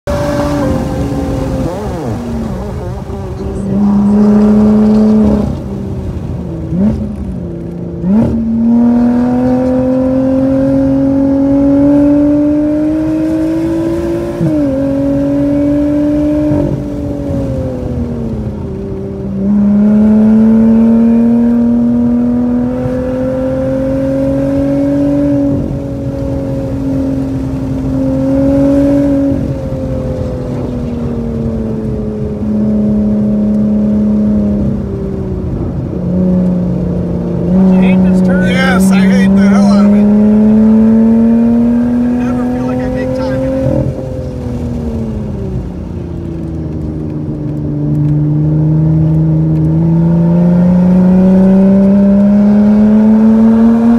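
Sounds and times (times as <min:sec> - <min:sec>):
car engine at full throttle: 0:00.0 - 0:53.9.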